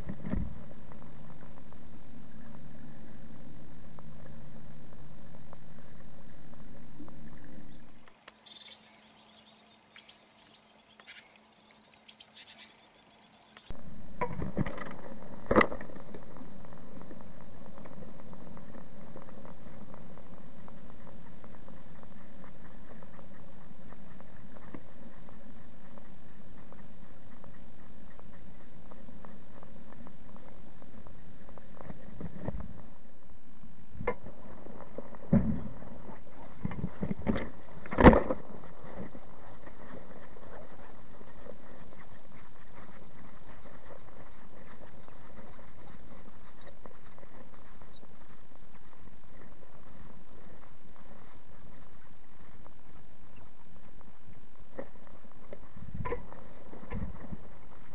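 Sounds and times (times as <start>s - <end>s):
nestlings begging chatter: 0.0s - 8.1s, 13.7s - 33.5s, 34.1s - 57.9s.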